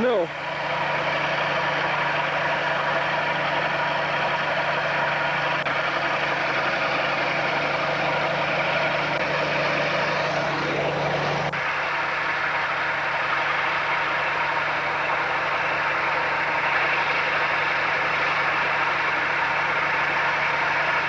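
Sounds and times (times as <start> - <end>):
diesel engine running under load: 0.0 - 21.0.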